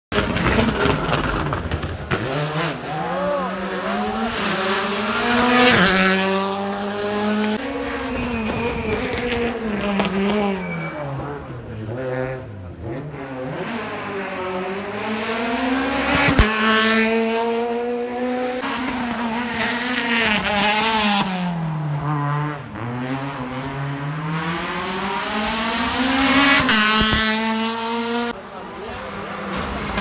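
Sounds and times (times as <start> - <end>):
rally car engine revving: 0.1 - 30.0.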